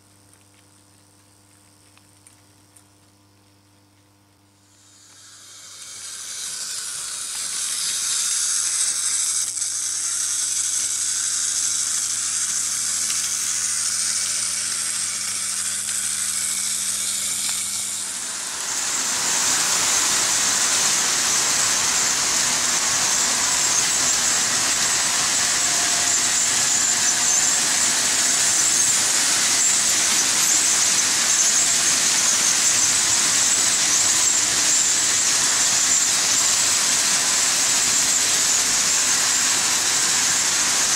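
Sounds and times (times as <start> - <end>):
model trains rolling on track: 4.7 - 40.9.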